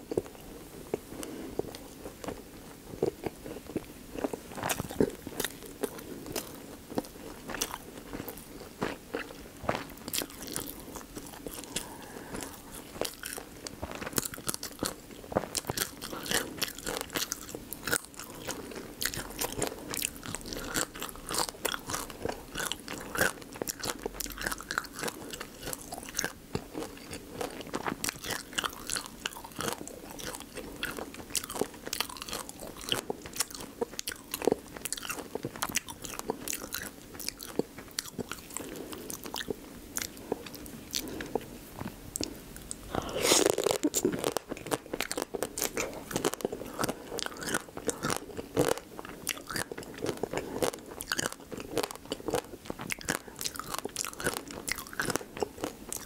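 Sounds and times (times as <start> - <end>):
chewing crunchy shell: 0.0 - 56.0.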